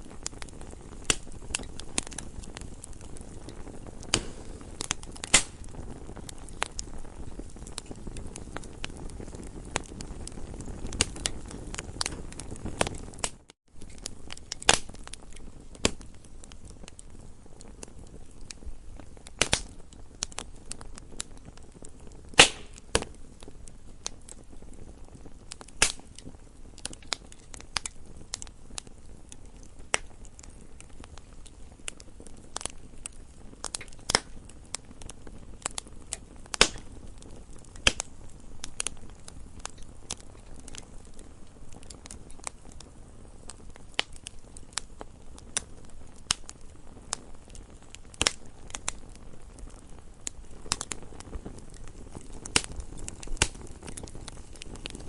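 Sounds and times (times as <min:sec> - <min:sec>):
campfire hissing: 0:00.0 - 0:55.0
fire snaps and pops: 0:00.0 - 0:55.0.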